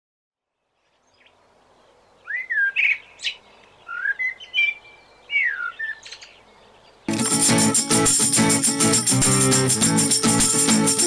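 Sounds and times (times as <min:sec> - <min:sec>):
bird chirping: 0:00.6 - 0:11.0.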